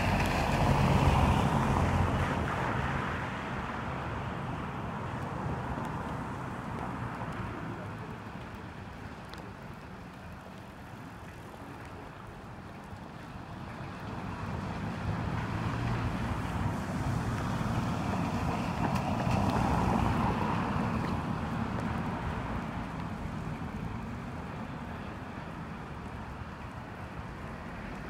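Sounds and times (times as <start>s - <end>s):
car tyres hissing on wet road: 0.0s - 8.8s, 14.1s - 28.0s.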